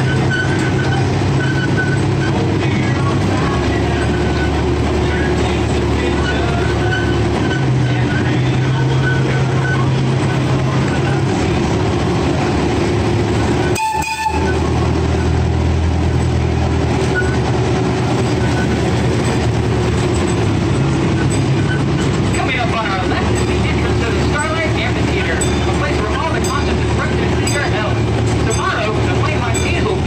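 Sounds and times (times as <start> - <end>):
miniature train engine hum: 0.0 - 30.0
train running noise: 0.0 - 30.0.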